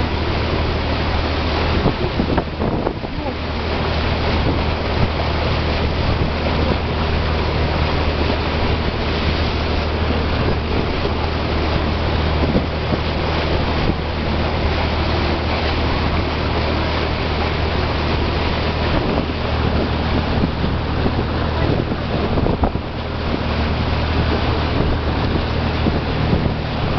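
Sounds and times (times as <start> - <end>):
boat engine drone: 0.0 - 26.9
wind and water rushing: 0.0 - 26.9.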